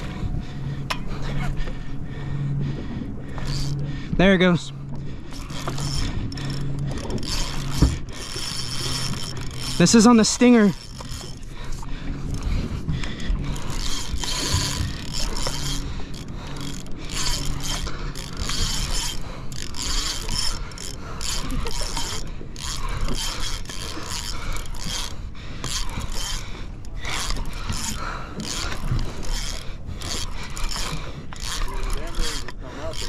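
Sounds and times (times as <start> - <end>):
fishing reel ratcheting: 3.3 - 3.9, 4.9 - 33.0.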